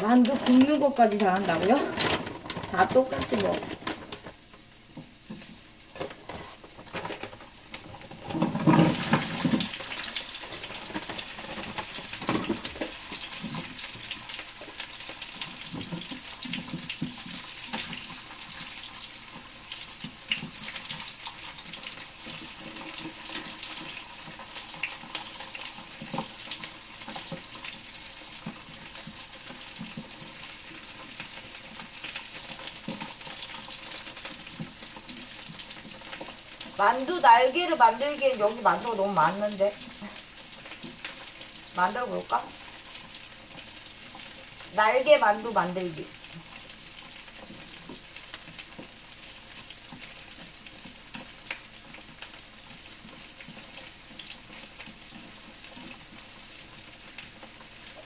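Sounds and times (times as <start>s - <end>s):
dumplings sizzling in oil: 0.0s - 58.0s.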